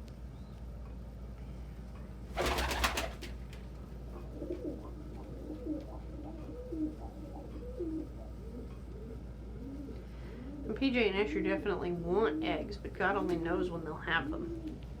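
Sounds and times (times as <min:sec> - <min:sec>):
pigeons cooing: 0:02.4 - 0:15.0.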